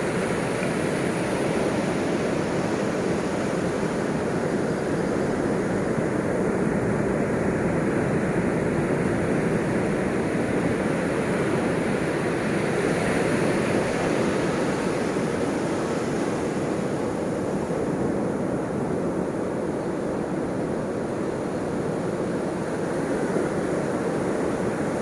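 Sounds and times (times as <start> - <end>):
ocean waves washing: 0.0 - 25.0.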